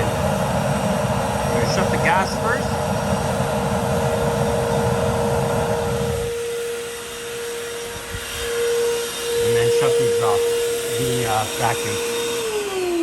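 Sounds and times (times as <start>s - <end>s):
gas burner rumbling: 0.0s - 13.0s
vacuum motor whine: 0.0s - 13.0s.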